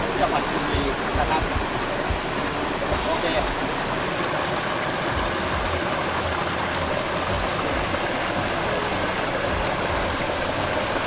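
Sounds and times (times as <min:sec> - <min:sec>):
water cascading over rocks: 0:00.0 - 0:11.0.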